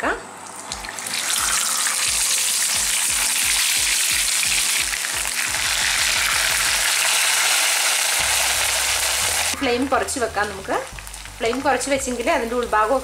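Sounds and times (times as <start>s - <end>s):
fish sizzling in frying pan: 0.6s - 13.0s.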